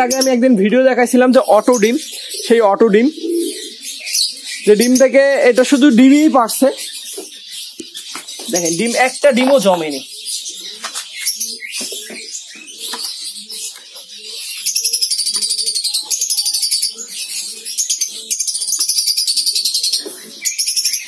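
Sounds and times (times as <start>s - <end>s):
lovebirds chattering: 0.0s - 21.0s
pigeons cooing: 0.0s - 21.0s.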